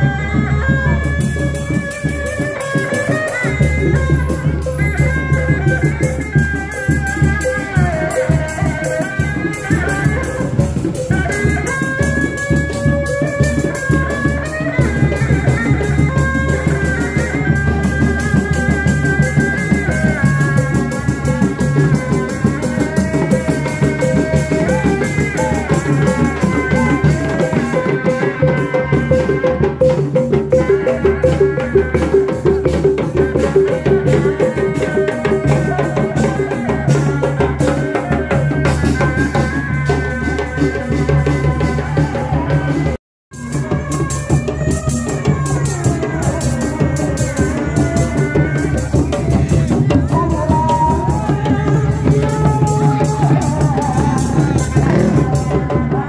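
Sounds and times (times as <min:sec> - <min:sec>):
drums beating steady rhythm: 0:00.0 - 0:56.0.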